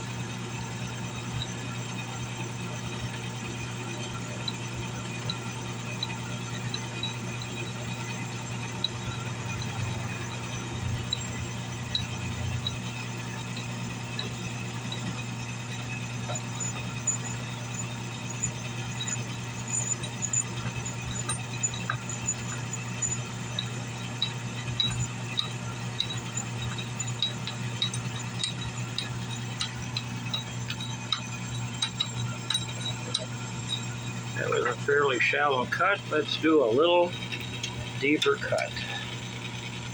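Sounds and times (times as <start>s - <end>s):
motor hum: 0.0s - 39.9s
sharp ticks of milling cutter: 0.6s - 39.9s.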